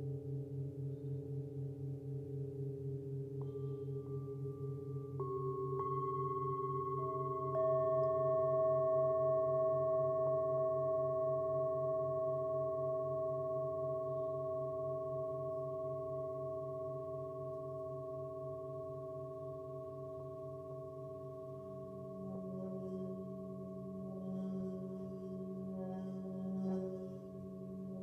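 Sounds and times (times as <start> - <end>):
singing bowls ringing: 3.4 - 28.0.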